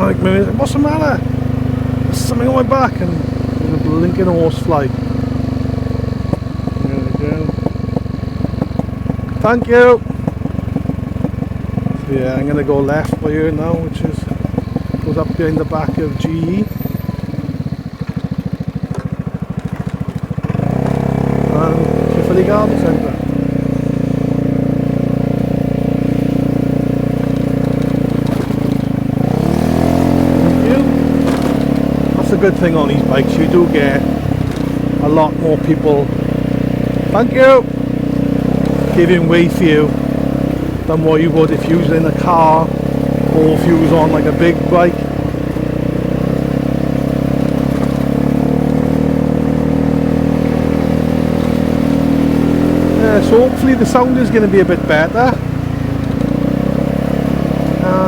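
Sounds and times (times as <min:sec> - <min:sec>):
scooter engine with loud exhaust: 0:00.0 - 0:58.0.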